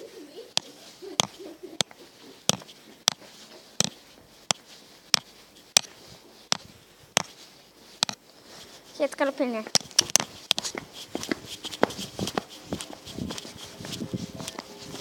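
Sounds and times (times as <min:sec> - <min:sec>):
horse hooves clip-clopping: 0:00.6 - 0:07.4, 0:09.7 - 0:15.0.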